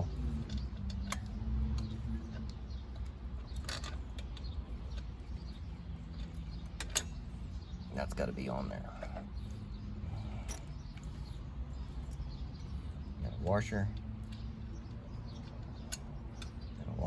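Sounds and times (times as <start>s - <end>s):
steady low hum: 0.0s - 17.0s
small metallic clicks: 0.1s - 8.2s, 8.9s - 17.0s.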